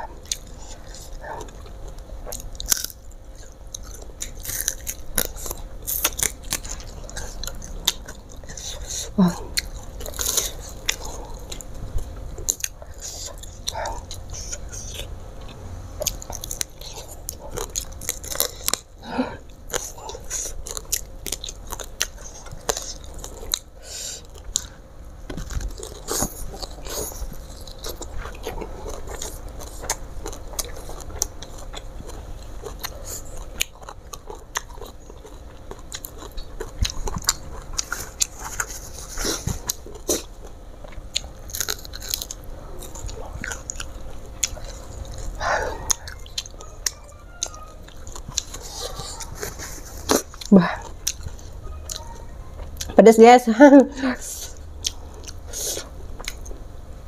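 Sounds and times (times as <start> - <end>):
chewing crisp food: 0.0 - 57.0.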